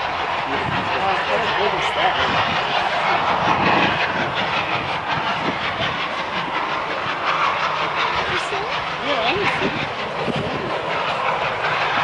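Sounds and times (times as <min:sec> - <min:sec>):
steam hissing: 0:00.0 - 0:12.0
steam locomotive exhaust beats: 0:00.0 - 0:12.0.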